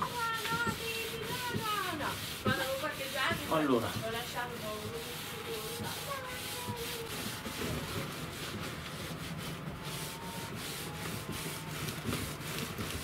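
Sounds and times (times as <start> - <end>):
paintbrush rubbing over wood: 0.0 - 13.0.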